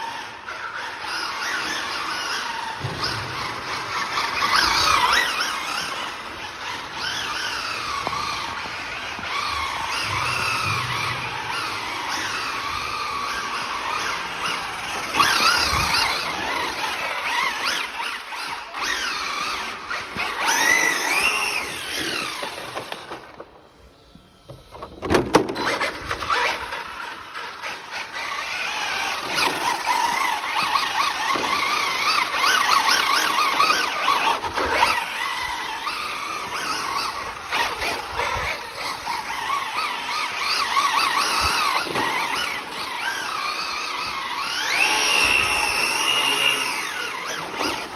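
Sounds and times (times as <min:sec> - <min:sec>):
electric motor whine: 0:00.0 - 0:23.3, 0:25.5 - 0:47.9
tyre noise and squealing: 0:00.0 - 0:23.4, 0:24.5 - 0:47.9.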